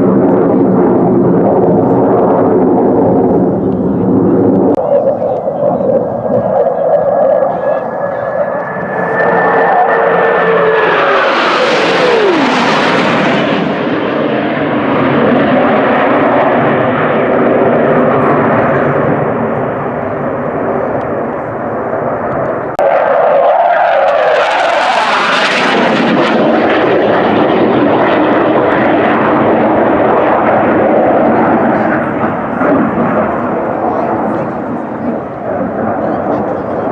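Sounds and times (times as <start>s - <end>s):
airplane flying past low: 0.0s - 36.9s.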